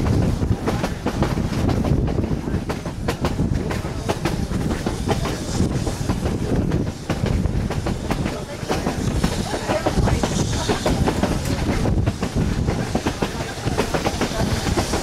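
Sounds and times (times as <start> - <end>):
low rumble of train coach: 0.0 - 15.0
train wheels clicking over rail joints: 0.0 - 15.0.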